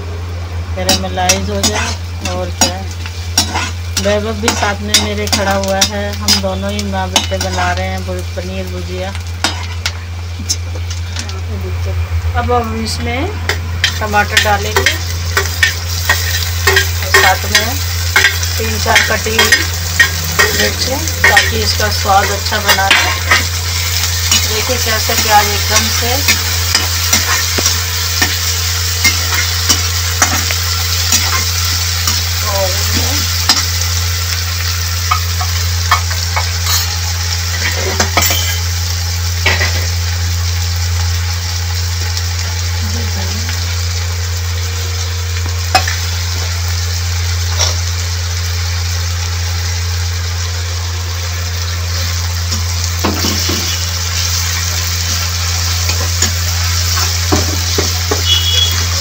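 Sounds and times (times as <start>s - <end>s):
steady low hum: 0.0s - 57.8s
vegetables sizzling in oil: 0.0s - 59.0s.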